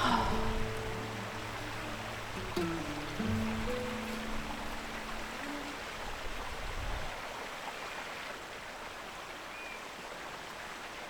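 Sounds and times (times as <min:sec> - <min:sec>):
mountain stream over stones: 0:00.0 - 0:11.0.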